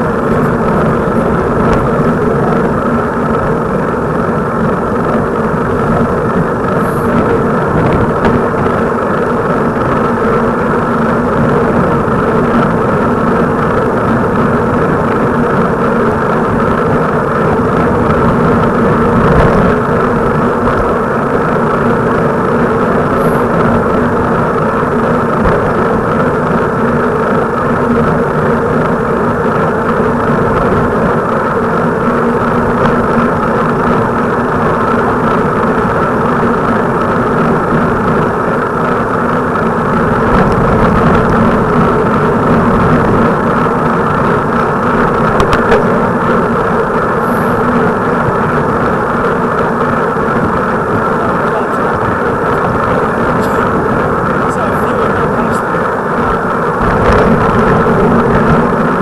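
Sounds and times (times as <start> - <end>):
moving vehicle drone: 0.0 - 59.0.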